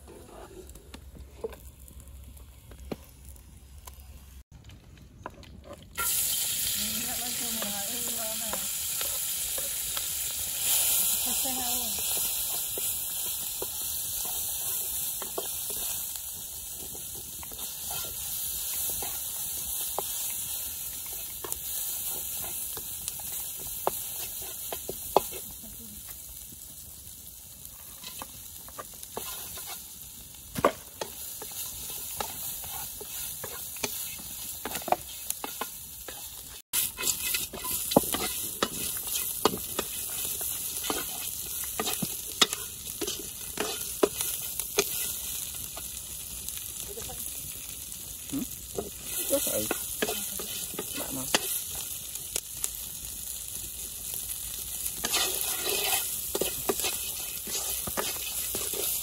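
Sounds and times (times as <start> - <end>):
food sizzling in a wok: 0.0 - 4.5, 5.2 - 59.0.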